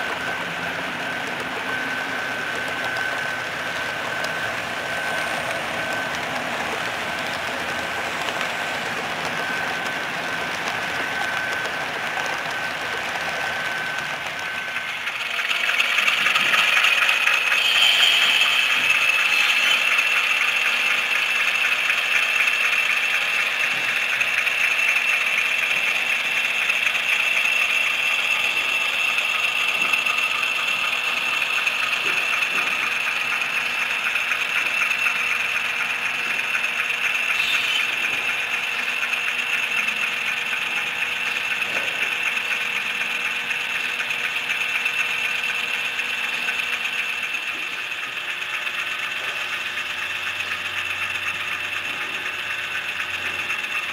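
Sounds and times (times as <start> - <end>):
model trains running on track: 0.0 - 53.9
steady high whine: 0.0 - 53.9.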